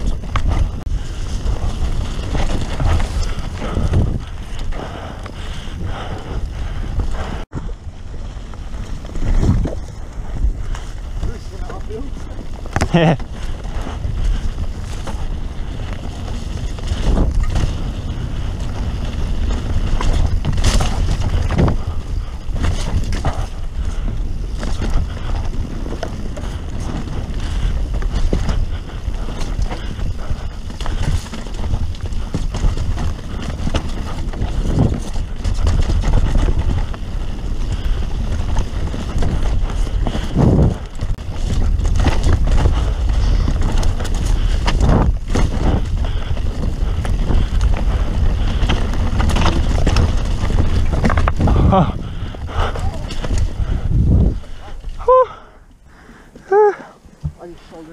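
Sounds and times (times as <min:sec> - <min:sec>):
knocks over roots and bumps: 0:00.0 - 0:05.5, 0:07.5 - 0:55.5
bike rattling: 0:00.0 - 0:57.9
tyres rolling on dirt: 0:00.0 - 0:57.9
wind buffeting microphone: 0:00.0 - 0:57.9.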